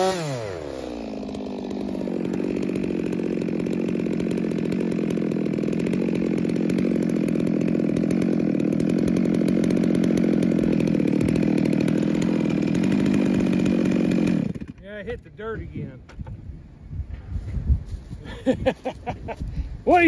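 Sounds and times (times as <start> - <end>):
chainsaw cutting log: 0.0 - 16.4.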